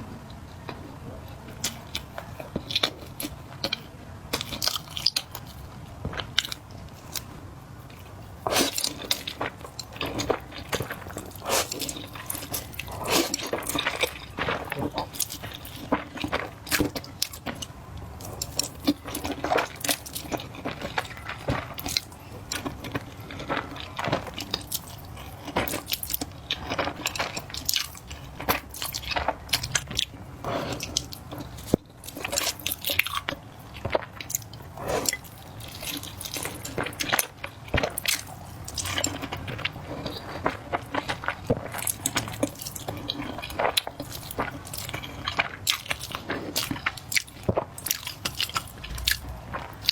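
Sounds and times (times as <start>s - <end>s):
wet chewing and mouth sounds: 1.4s - 49.9s.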